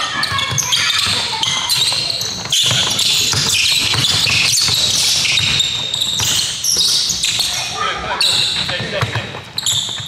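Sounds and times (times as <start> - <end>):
basketball dribbling: 0.0 - 7.5, 8.3 - 10.0
sneaker squeaks: 0.0 - 10.0.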